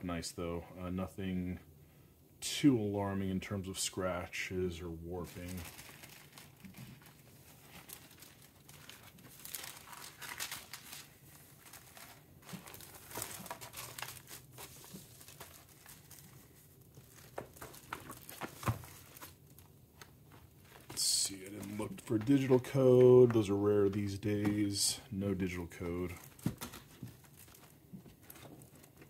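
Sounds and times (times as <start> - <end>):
paper record sleeve rustling: 5.2 - 29.0.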